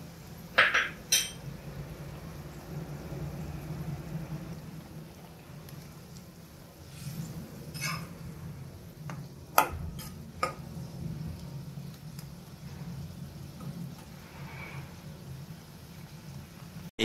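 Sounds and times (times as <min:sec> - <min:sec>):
food frying in a pan: 0:00.0 - 0:17.0.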